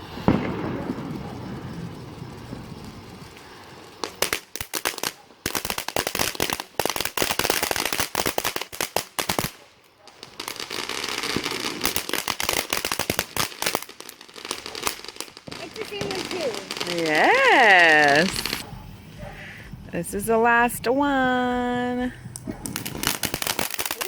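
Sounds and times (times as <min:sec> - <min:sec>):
firework crackling: 0:00.0 - 0:24.0.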